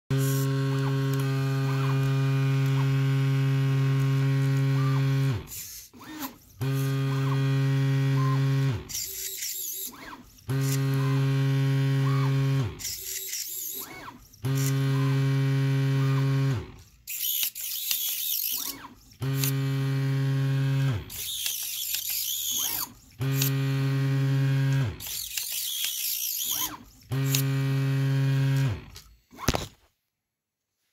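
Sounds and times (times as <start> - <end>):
motor hum winding down: 0.1 - 16.8, 17.8 - 29.0
sweeping whirring: 0.1 - 29.6.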